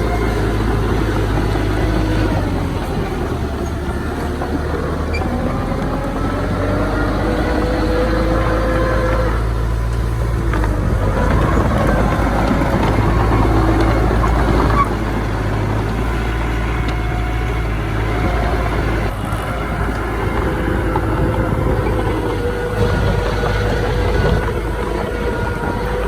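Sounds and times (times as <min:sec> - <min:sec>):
diesel engines rumbling: 0:00.0 - 0:26.0
faint whining tones: 0:00.0 - 0:26.0.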